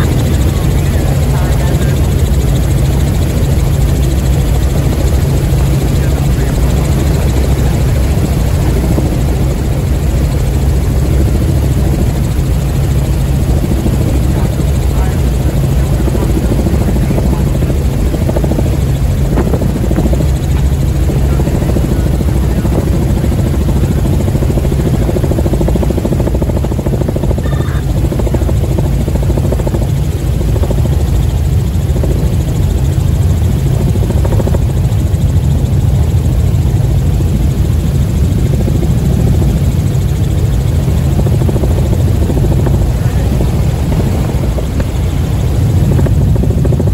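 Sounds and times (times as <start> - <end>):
helicopter engine and rotor noise: 0.0 - 46.9.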